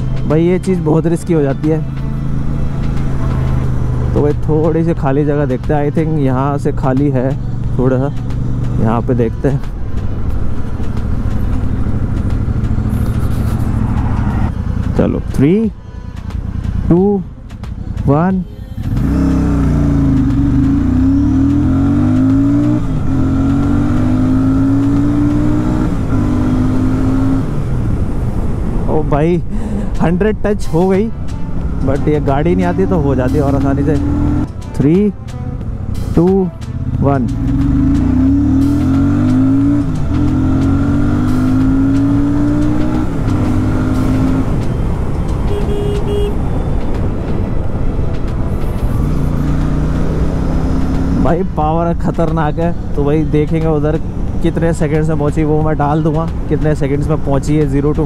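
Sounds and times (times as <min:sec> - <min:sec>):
motorcycle engine at full throttle: 0:00.0 - 0:15.7, 0:16.4 - 0:29.0, 0:35.6 - 0:58.0
wind and road rush: 0:00.0 - 0:58.0.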